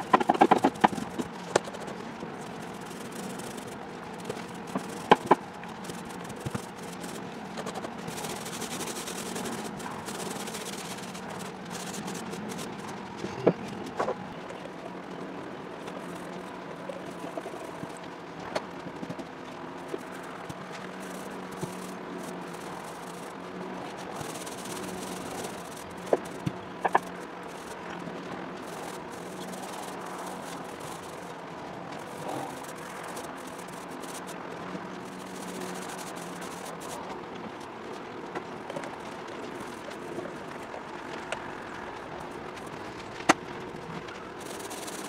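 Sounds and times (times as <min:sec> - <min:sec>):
paint roller rustling: 0:00.0 - 0:15.0, 0:15.7 - 0:45.0
steady low hum: 0:00.0 - 0:45.0.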